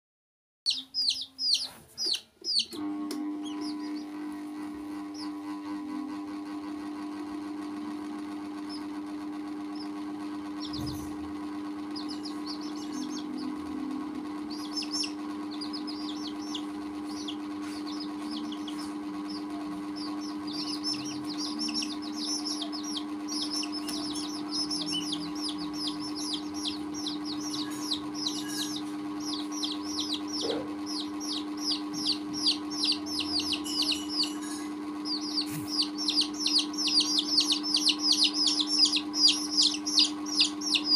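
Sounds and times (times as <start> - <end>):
chicks peeping: 0.7 - 5.5, 7.7 - 40.9
steady low hum: 0.7 - 40.9.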